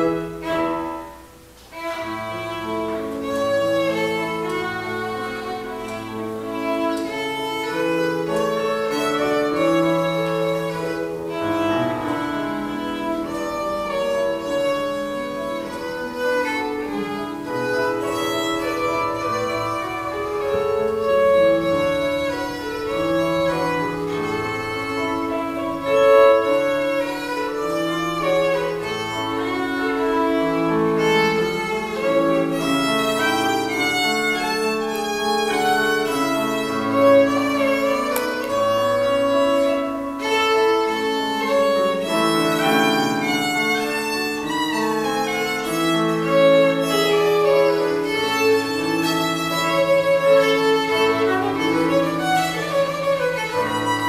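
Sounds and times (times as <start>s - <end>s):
digital piano accompaniment: 0.0s - 54.0s
violin melody: 0.0s - 54.0s.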